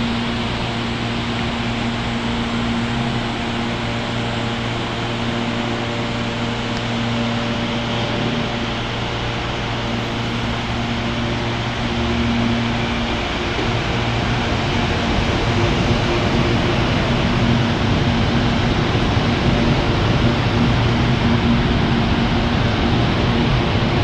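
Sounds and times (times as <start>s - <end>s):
train equipment hum: 0.0s - 24.0s
train pulling away: 0.0s - 24.0s.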